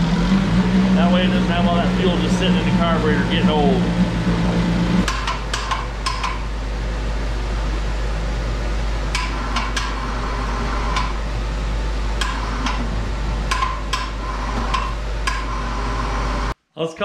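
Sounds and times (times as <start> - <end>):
low hum: 0.0 - 16.6.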